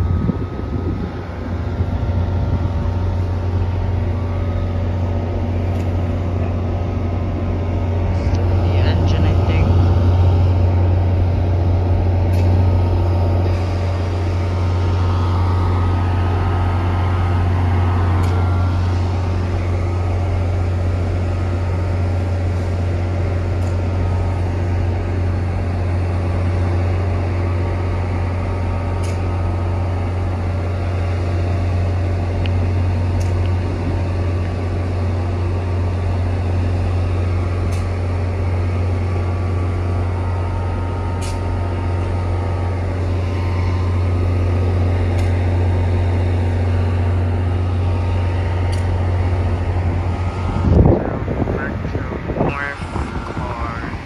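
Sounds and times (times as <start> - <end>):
steady hum: 0.0 - 54.0
train engine low drone: 0.0 - 54.0.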